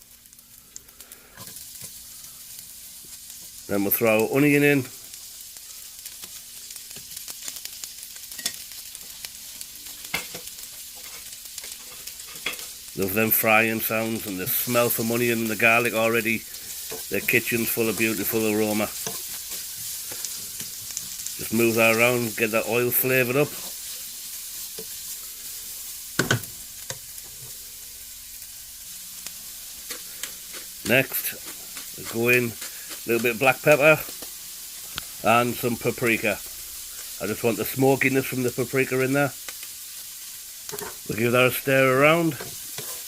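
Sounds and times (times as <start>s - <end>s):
onion and garlic sizzling in oil: 0.0s - 43.0s.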